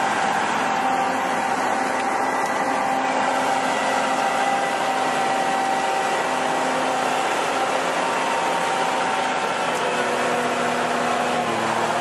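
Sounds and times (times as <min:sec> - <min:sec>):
constant whine: 0:00.0 - 0:12.0
tracked vehicle engine and tracks: 0:00.0 - 0:12.0.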